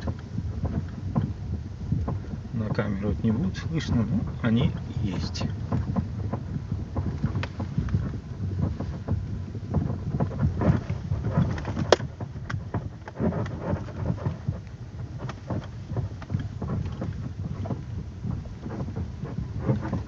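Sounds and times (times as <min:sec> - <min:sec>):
car knocking over bumps: 0:00.0 - 0:20.0
road rumble: 0:00.0 - 0:20.0.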